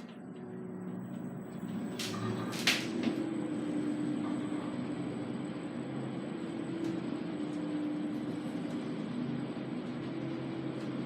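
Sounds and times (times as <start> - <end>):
lift running hum: 0.0 - 11.0.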